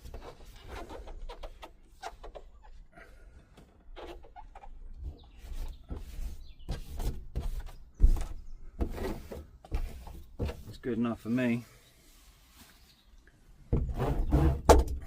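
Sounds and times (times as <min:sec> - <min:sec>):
rubbing and scraping on metal: 0:00.0 - 0:12.9, 0:13.7 - 0:15.0.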